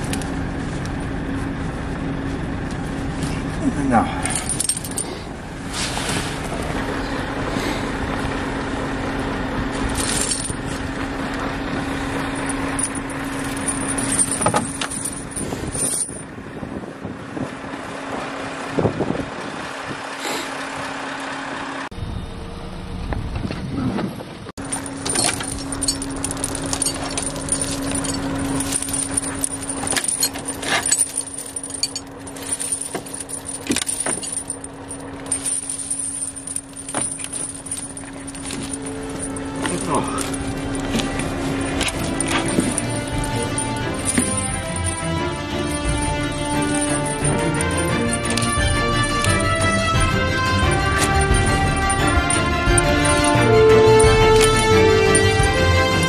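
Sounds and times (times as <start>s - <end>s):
snow chains clinking: 0.0s - 1.5s, 3.1s - 8.4s, 9.6s - 16.3s, 24.6s - 56.0s
truck engine humming: 0.0s - 56.0s.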